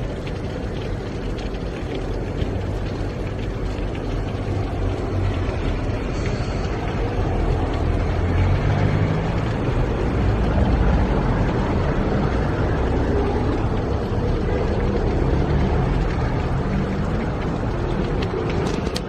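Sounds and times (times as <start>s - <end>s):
tyres on wet road: 0.0s - 19.0s
vehicle engines running: 0.0s - 19.0s.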